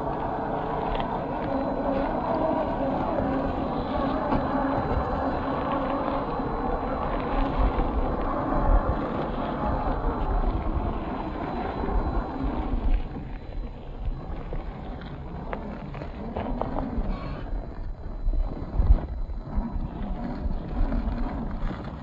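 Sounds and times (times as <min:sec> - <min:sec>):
wind on microphone: 0:00.0 - 0:22.0
toy car motor whining: 0:00.1 - 0:22.0.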